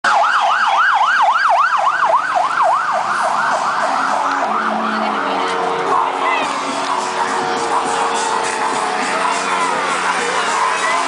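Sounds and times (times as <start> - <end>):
siren yelping: 0.0 - 11.0.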